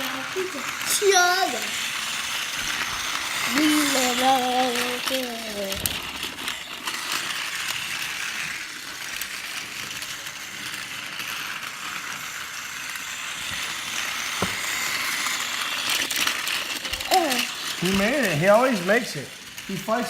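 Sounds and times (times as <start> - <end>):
toy train motor whirring: 0.0 - 20.0.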